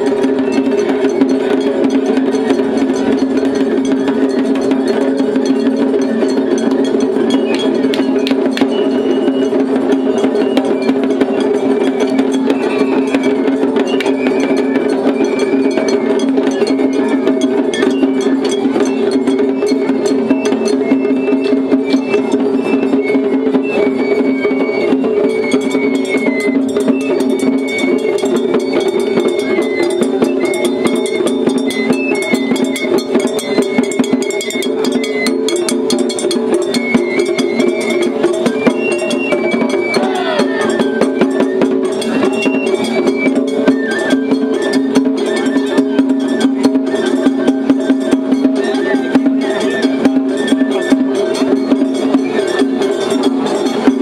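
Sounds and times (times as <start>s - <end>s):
bamboo flute melody: 0.0s - 54.0s
taiko drum and percussion: 0.0s - 54.0s.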